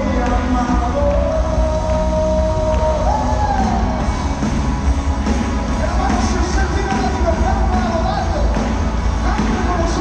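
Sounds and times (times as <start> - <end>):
amplified worship band: 0.0 - 10.0.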